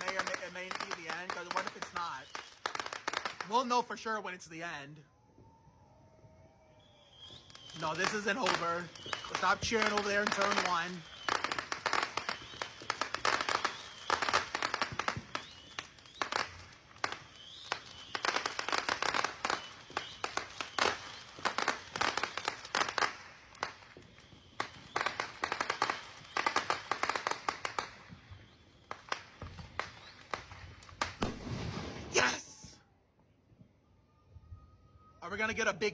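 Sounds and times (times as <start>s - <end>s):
firework whistle: 0.0s - 3.9s, 5.0s - 32.8s
fireworks cracking and banging: 0.0s - 4.0s, 7.1s - 32.8s.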